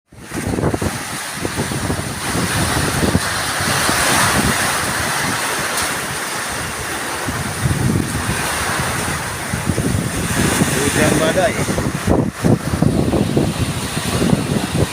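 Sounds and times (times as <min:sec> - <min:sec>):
heavy rain: 0:00.1 - 0:14.9
wind gusts rumbling on microphone: 0:00.1 - 0:14.9.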